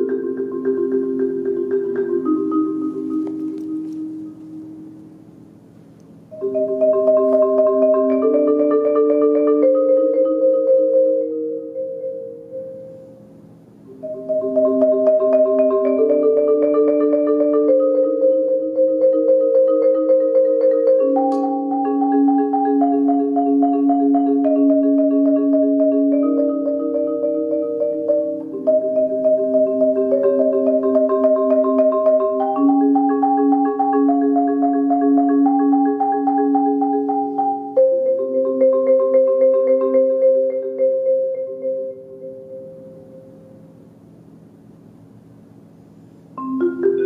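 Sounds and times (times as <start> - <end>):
marimba rolled chords: 0.0 - 5.4, 6.3 - 43.8, 46.4 - 47.0.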